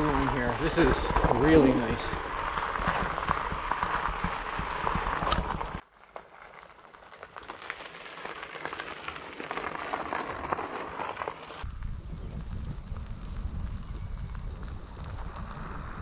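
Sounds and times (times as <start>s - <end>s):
bike tyres crunching on gravel: 0.0s - 16.0s.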